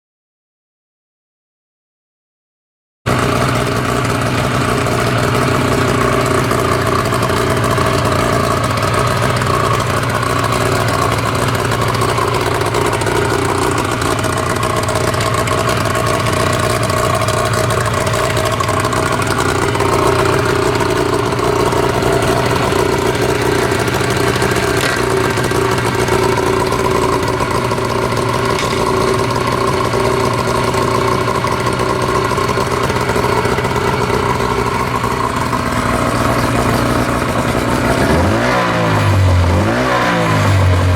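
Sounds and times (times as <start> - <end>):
two-stroke outboard motor running: 3.1 - 40.9.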